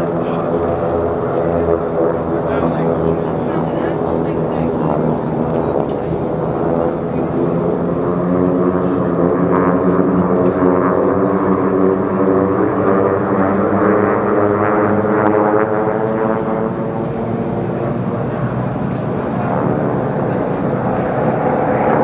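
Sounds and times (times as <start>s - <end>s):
propeller planes droning at full power: 0.0s - 22.0s.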